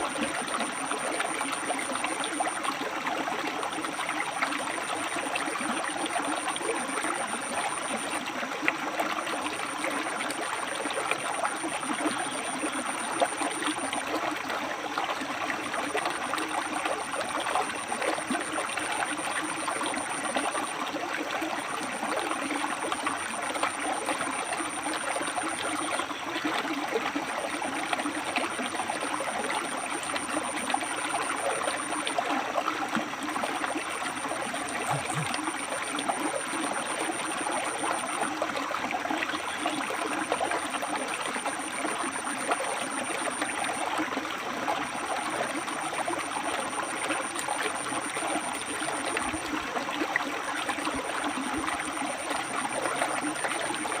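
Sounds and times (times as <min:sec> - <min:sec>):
river water flowing over rocks: 0:00.0 - 0:54.0
small water splashes: 0:00.0 - 0:54.0.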